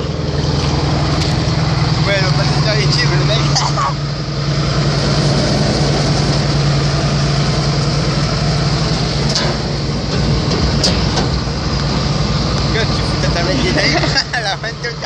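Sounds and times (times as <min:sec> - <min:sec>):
harvester engine humming: 0:00.0 - 0:15.0.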